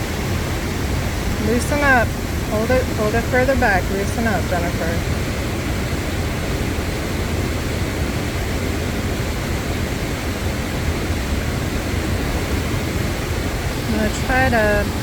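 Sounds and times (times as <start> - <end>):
waterfall and river rushing: 0.0 - 15.0.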